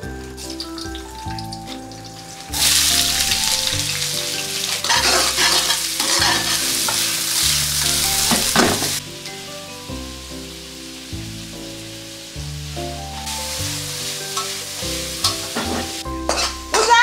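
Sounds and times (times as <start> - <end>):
vegetables sizzling in a wok: 0.0 - 17.0
vegetables tossed in a pan: 0.3 - 9.1, 10.9 - 17.0.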